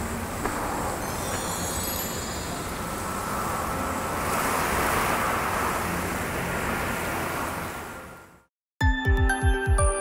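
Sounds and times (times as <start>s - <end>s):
wind rushing through pine trees: 0.0s - 8.5s.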